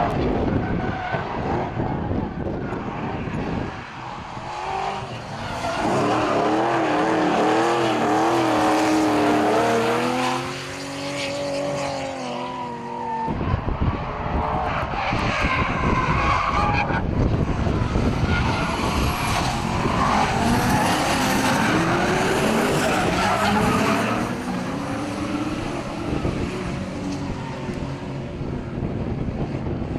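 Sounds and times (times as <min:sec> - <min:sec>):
car engines revving: 0:00.0 - 0:29.9
tyres skidding: 0:00.1 - 0:28.6.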